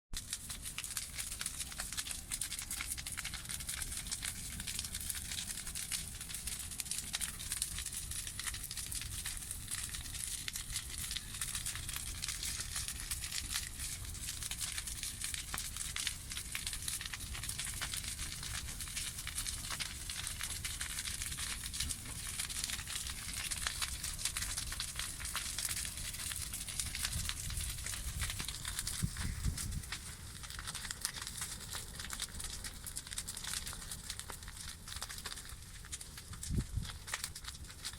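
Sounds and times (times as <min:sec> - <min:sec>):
campfire crackling: 0:00.2 - 0:37.9.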